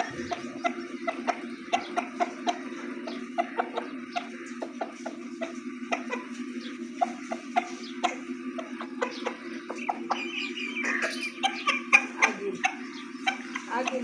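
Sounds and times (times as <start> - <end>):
low hum: 0.0 - 12.0
bird chirps and clucks: 0.0 - 14.0.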